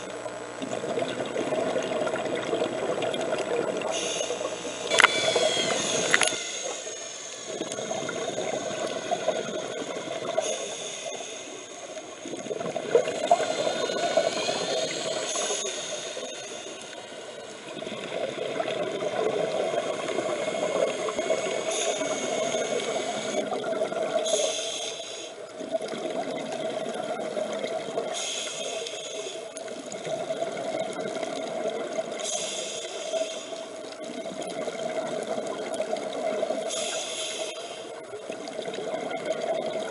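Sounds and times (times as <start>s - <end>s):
exhaled bubbles from regulator: 0.0s - 39.9s
underwater background noise: 0.0s - 39.9s.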